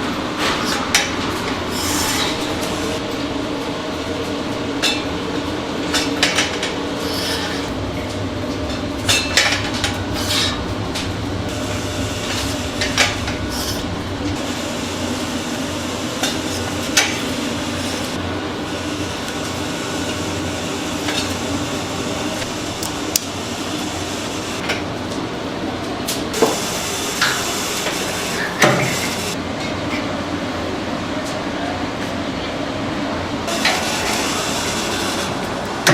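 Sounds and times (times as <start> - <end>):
steady machine hum: 0.0 - 35.9.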